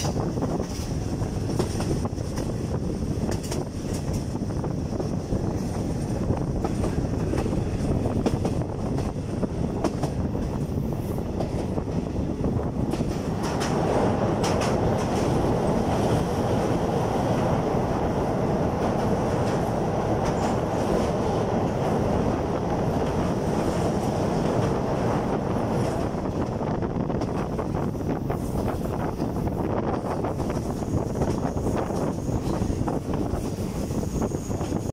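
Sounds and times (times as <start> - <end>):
train rolling rumble: 0.0 - 34.9
train wheels clattering over rails: 0.0 - 34.9.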